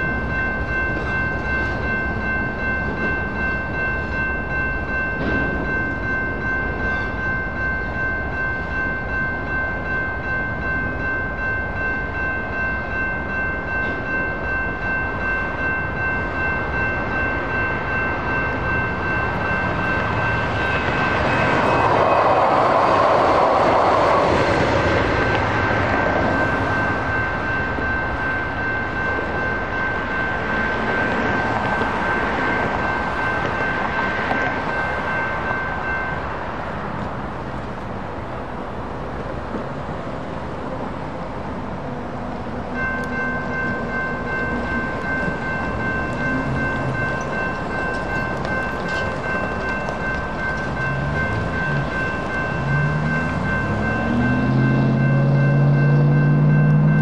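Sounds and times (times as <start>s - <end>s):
crossing bell ringing: 0.0s - 57.0s
freight train running: 0.0s - 57.0s.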